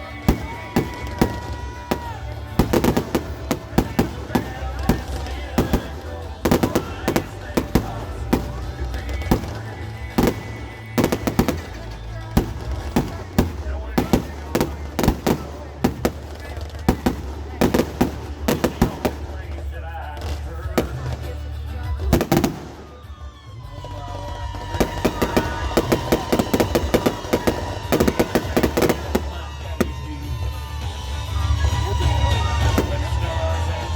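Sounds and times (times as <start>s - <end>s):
fireworks bangs: 0.0s - 33.9s.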